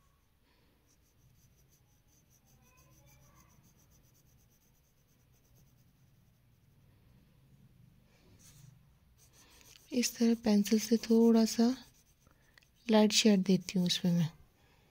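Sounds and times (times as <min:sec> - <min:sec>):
pencil scratching on paper: 0:00.0 - 0:06.9, 0:08.4 - 0:14.3.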